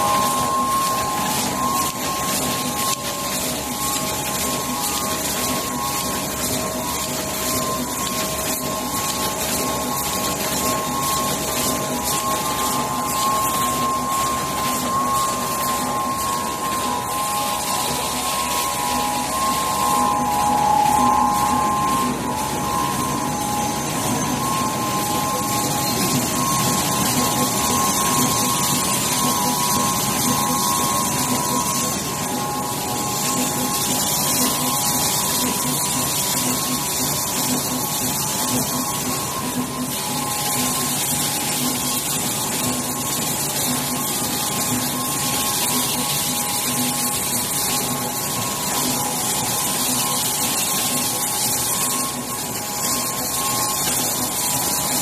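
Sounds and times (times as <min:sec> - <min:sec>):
high machine whine: 0:00.0 - 0:55.0
printing machine whirring: 0:00.0 - 0:55.0.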